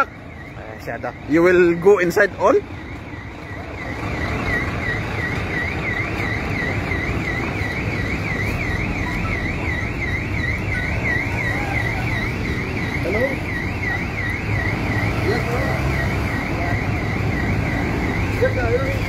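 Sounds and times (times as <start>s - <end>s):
electronic alarm warbling: 0.0s - 19.0s
rushing background noise: 0.0s - 19.0s.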